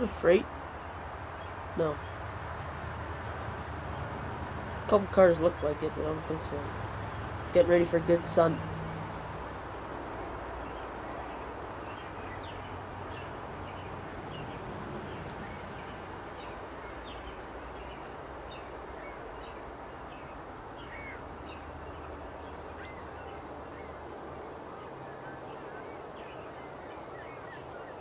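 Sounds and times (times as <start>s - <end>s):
steady low rumble: 0.0s - 25.1s
birds chirping: 0.0s - 28.0s.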